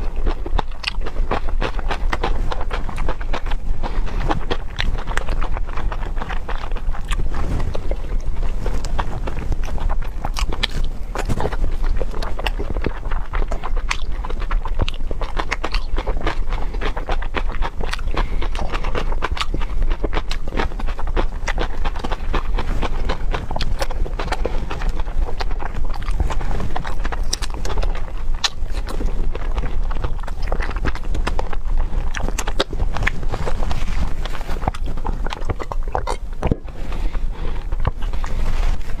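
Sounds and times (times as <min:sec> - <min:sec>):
wet chewing clicks and smacks: 0:00.0 - 0:39.0.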